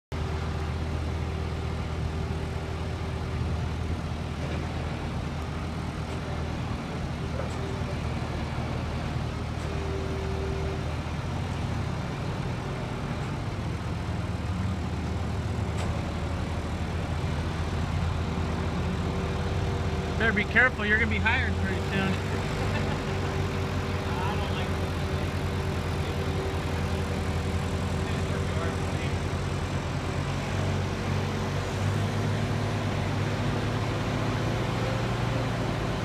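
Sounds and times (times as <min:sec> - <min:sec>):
truck engine droning: 0:00.1 - 0:36.0.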